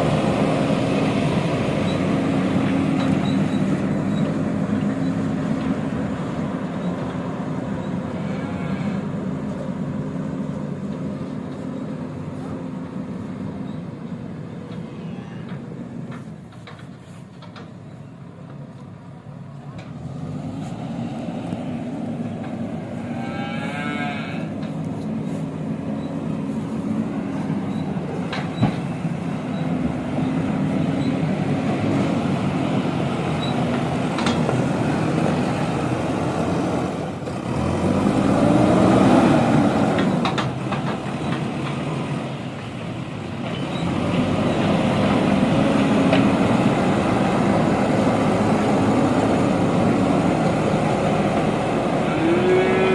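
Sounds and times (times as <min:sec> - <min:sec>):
backhoe diesel engine under load: 0:00.0 - 0:52.9.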